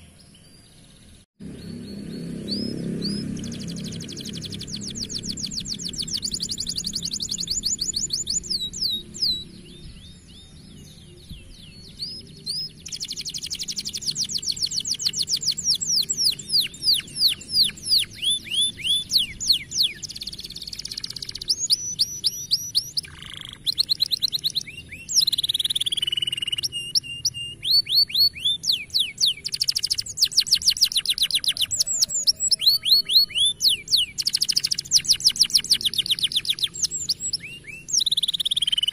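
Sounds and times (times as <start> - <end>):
canary singing fast trills: 0.0 - 38.9.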